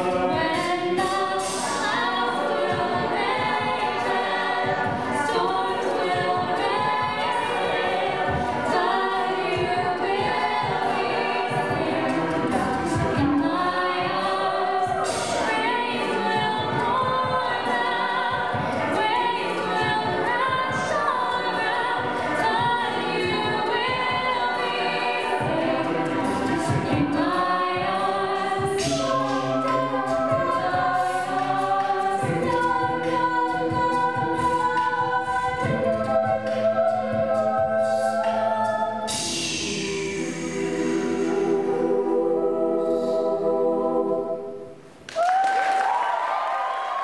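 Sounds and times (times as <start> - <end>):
group singing held chords: 0.0 - 45.0
woman singing lead: 0.0 - 47.0.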